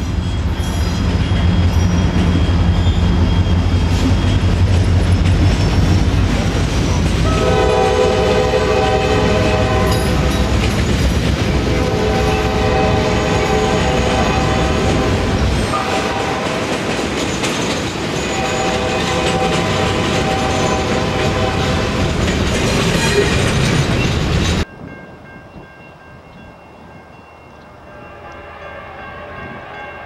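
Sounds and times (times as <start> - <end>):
freight train cars rolling: 0.0 - 28.6.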